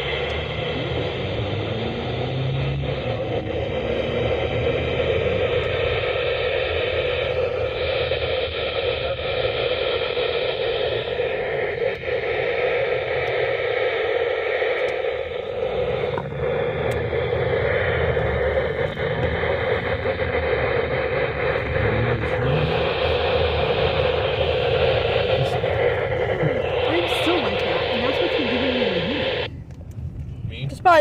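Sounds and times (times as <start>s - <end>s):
radio static and hiss: 0.0s - 29.5s
faint steady tones: 0.0s - 31.0s.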